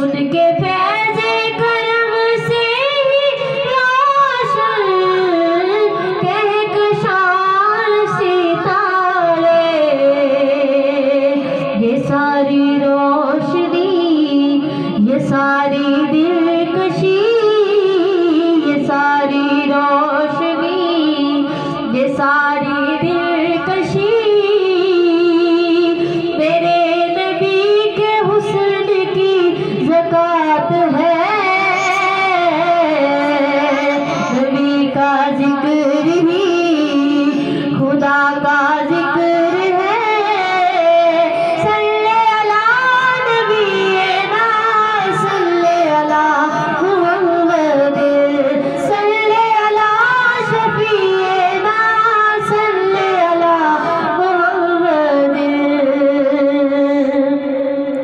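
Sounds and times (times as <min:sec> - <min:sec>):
woman singing devotional song: 0:00.0 - 0:58.0.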